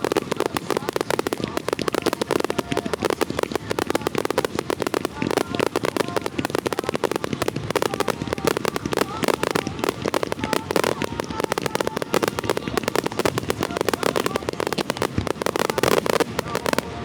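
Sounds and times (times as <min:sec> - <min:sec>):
fireworks pops and cracks: 0:00.0 - 0:17.0.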